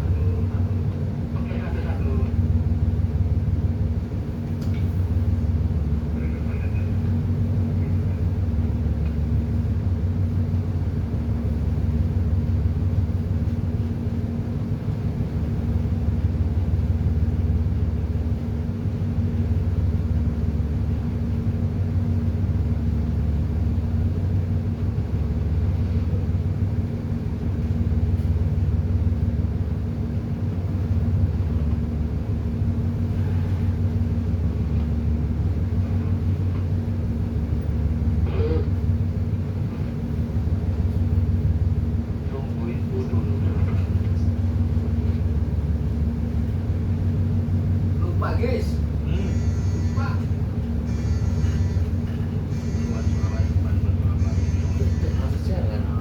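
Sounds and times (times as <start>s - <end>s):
ship engine low rumble: 0.0s - 56.0s.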